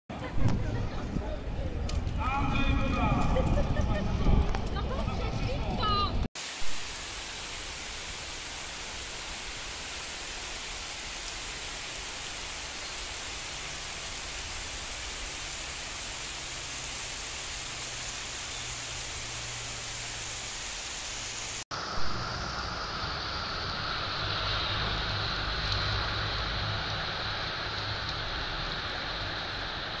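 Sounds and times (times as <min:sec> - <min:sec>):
heavy rain on leaves and paving: 0:00.2 - 0:30.0.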